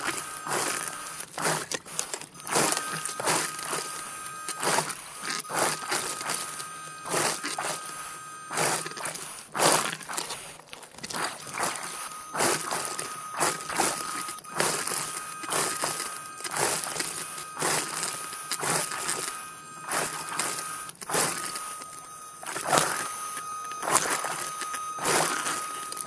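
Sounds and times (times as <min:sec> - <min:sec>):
underwater motor whine: 0:00.0 - 0:26.0.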